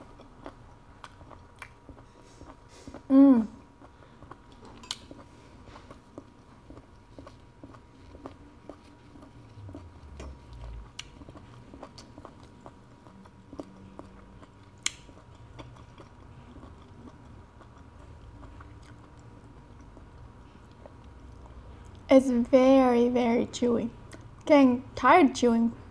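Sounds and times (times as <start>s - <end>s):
person chewing meat: 0.0s - 22.1s.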